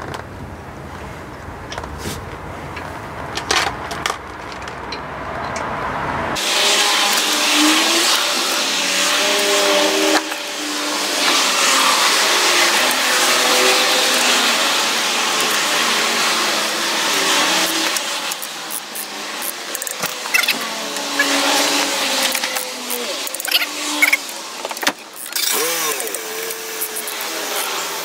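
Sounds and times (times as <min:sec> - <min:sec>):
motor vehicle noise: 0:00.0 - 0:28.0.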